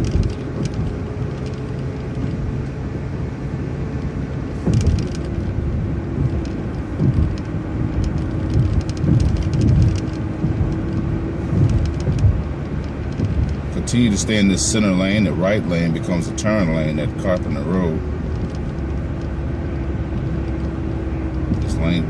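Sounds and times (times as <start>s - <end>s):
thumps and rattles from bumps: 0.0s - 3.1s, 3.8s - 22.0s
bus engine and road rumble: 0.0s - 22.0s.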